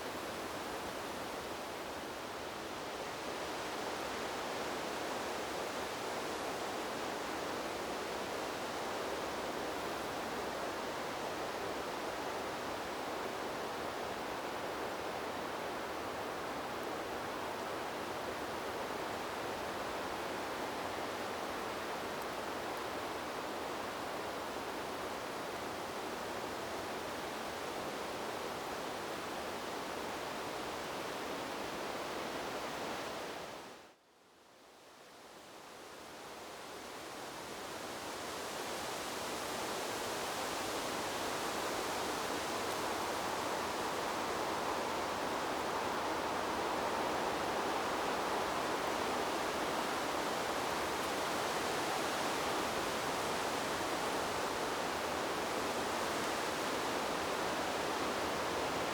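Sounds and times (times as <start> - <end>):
wind rushing through trees: 0.0 - 58.9.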